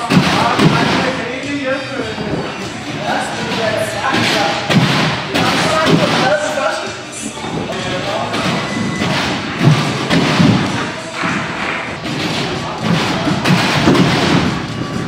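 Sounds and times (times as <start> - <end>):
music: 0.0 - 15.0
voices: 0.0 - 15.0
heavy thuds of gymnasts landing: 2.0 - 6.4, 7.3 - 15.0.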